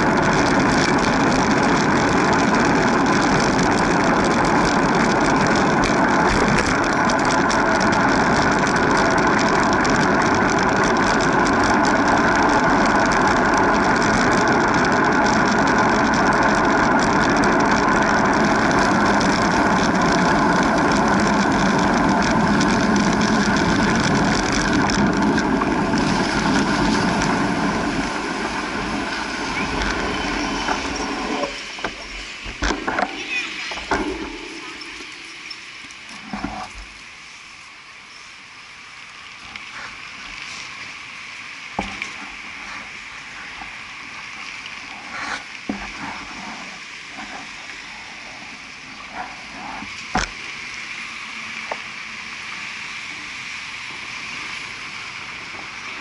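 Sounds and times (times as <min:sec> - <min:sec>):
traffic: 0:00.0 - 0:56.0
wind and road noise: 0:00.0 - 0:56.0.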